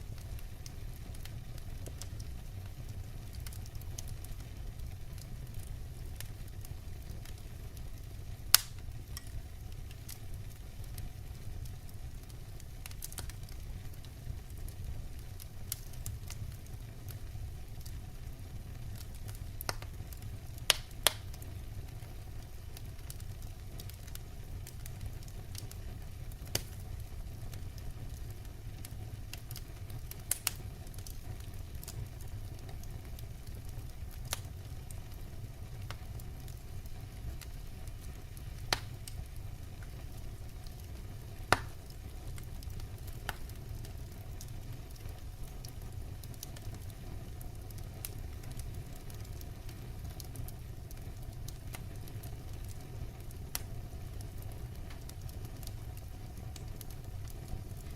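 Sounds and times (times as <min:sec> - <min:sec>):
fire pops and crackles: 0:00.0 - 0:57.9
firewood burning rumble: 0:00.0 - 0:57.9.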